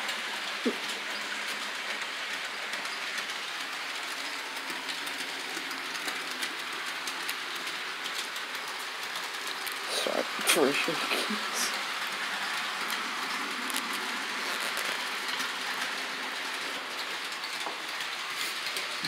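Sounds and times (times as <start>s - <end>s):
model train rolling whir: 0.0s - 19.0s
wheels clicking over rails: 0.0s - 19.0s.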